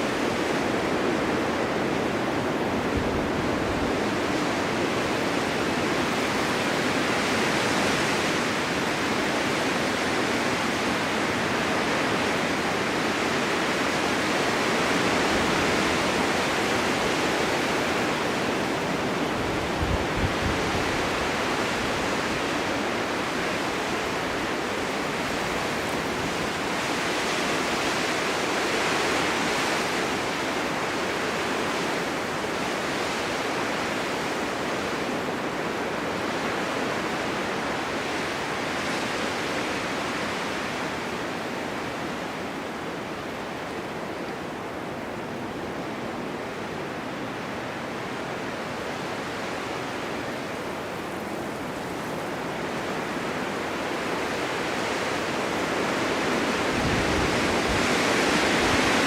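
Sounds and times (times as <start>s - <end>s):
blizzard wind rushing: 0.0s - 59.0s.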